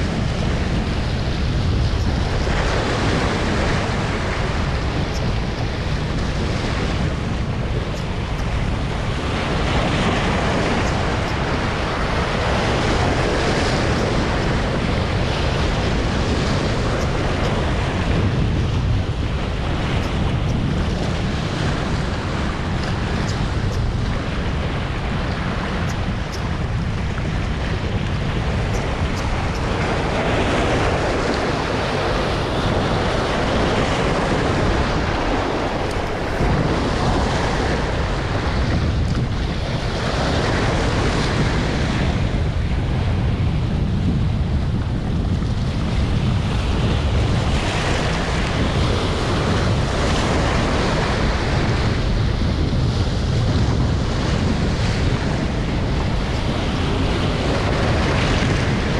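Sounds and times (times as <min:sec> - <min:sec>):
sea waves washing ashore: 0:00.0 - 0:58.9
wind buffeting microphone: 0:00.0 - 0:58.9.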